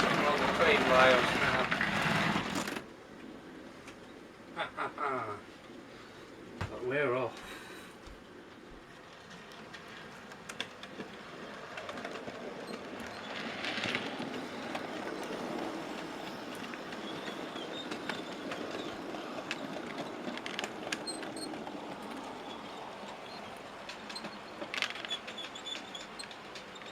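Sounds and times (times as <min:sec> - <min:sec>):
wheels clicking over rail joints: 0:00.0 - 0:04.2, 0:08.3 - 0:26.9
model train rumbling on track: 0:00.0 - 0:07.3, 0:08.3 - 0:26.9.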